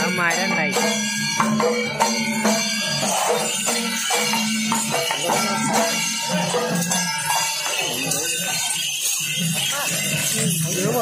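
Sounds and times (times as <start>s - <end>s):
jingling percussion: 0.0s - 11.0s.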